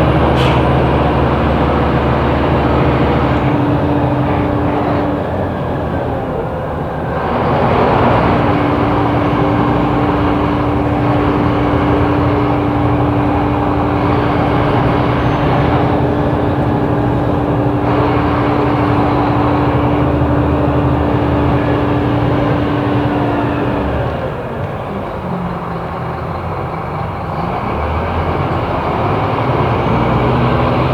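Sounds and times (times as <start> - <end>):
bus diesel engine rumbling: 0.0 - 30.9.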